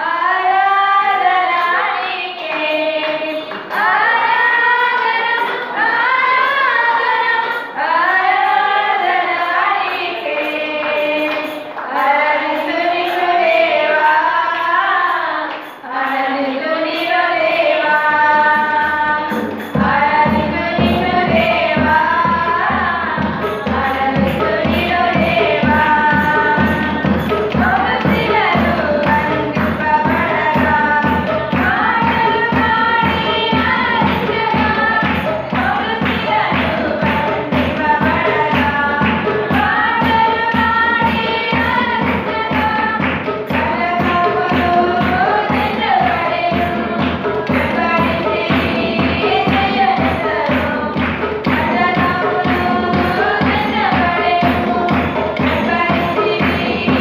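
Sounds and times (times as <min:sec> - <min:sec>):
women singing together: 0:00.0 - 0:57.0.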